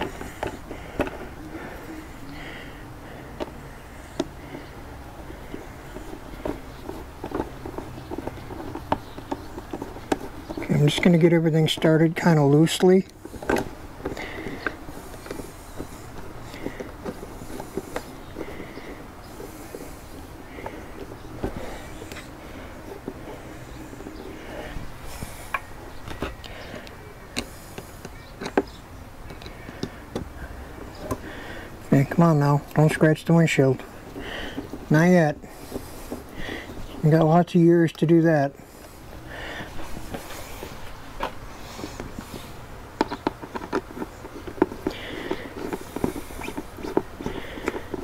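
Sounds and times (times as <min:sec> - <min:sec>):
light handling noise: 0:00.0 - 0:48.0.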